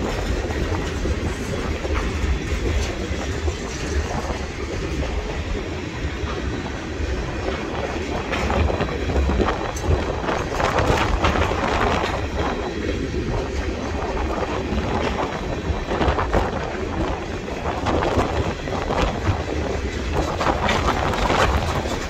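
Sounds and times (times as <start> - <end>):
freight train wheels rumbling: 0.0 - 22.0
wind buffeting the microphone: 0.0 - 22.0.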